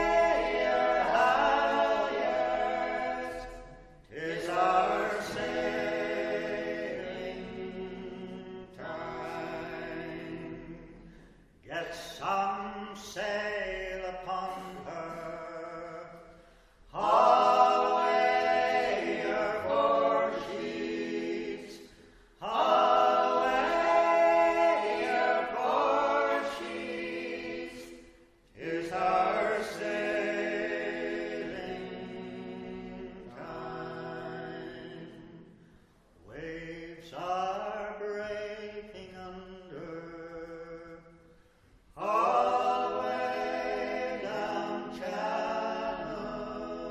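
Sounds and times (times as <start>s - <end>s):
group singing unaccompanied: 0.0s - 35.6s, 36.3s - 41.2s, 41.9s - 46.9s.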